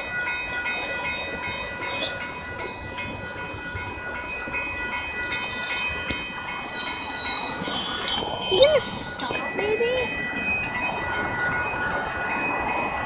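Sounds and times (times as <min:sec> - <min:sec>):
freight train rumbling past: 0:00.0 - 0:13.0
railroad crossing bell ringing: 0:00.0 - 0:13.0
train wheels clacking: 0:00.0 - 0:13.0.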